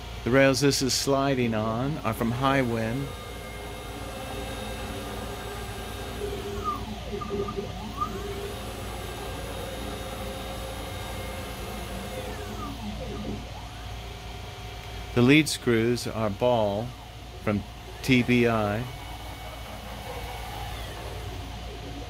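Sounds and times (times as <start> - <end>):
stepper motor machine whine: 1.5 - 22.0.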